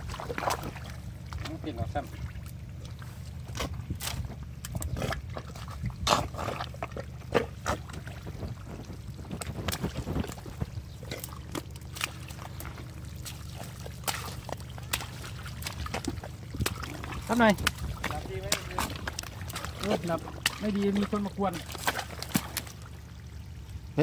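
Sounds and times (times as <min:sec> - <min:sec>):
squelching and slapping in mud: 0:00.0 - 0:23.9
steady low hum: 0:00.0 - 0:24.0.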